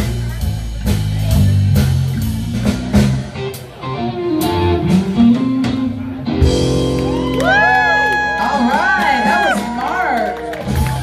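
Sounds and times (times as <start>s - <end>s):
drums: 0.0s - 11.0s
electric bass: 0.0s - 11.0s.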